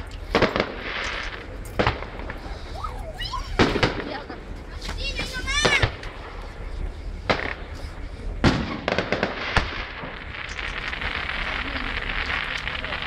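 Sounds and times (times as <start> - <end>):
small firework cracks: 0.0 - 2.6, 3.5 - 13.0
firework shells bursting: 0.0 - 2.8, 3.5 - 13.0
dense firework crackling: 0.0 - 13.0.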